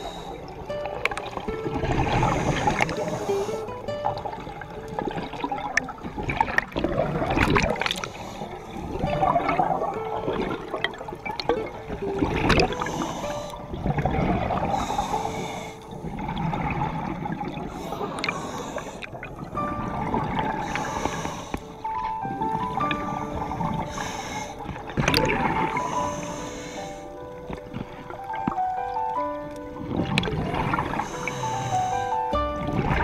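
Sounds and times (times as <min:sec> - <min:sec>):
underwater bubbles gurgling: 0:00.0 - 0:33.0.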